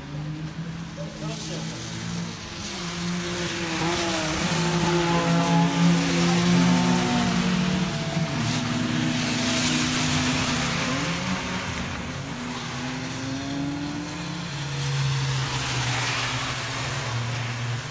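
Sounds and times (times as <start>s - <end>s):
race car engine at full throttle: 0.0s - 17.9s.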